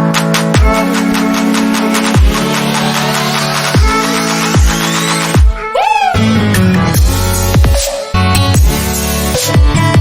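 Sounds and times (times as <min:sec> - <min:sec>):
electronic dance music: 0:00.0 - 0:09.6.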